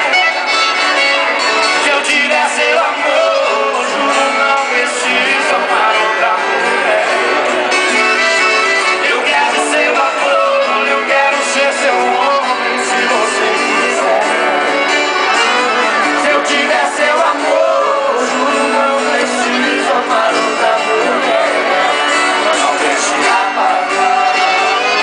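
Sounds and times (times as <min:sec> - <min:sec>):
band accompaniment: 0:00.0 - 0:25.0
strummed guitar: 0:00.0 - 0:25.0
voices singing: 0:00.0 - 0:25.0.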